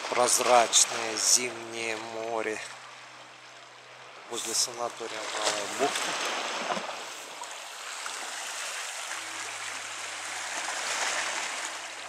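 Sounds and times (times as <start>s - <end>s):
small waves lapping on pebbles: 0.0s - 12.0s.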